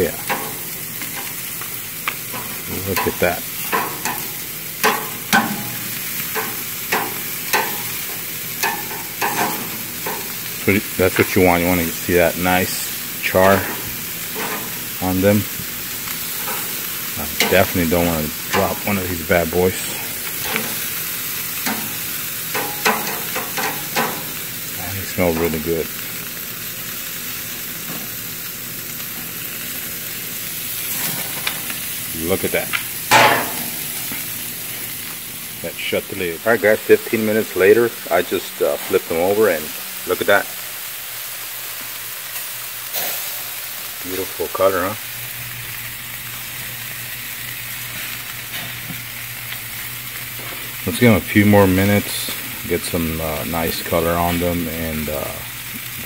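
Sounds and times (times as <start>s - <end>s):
kebabs sizzling over charcoal: 0.0s - 56.0s.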